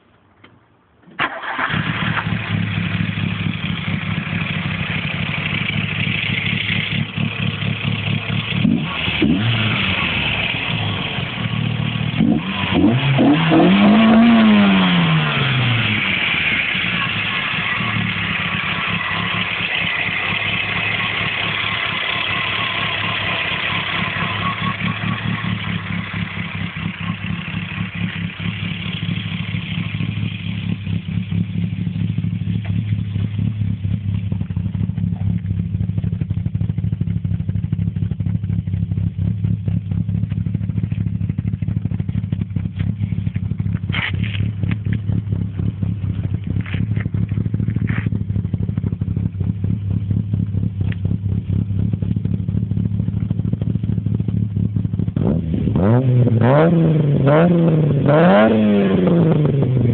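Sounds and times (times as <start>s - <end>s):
car engine starting and revving: 1.2s - 59.9s.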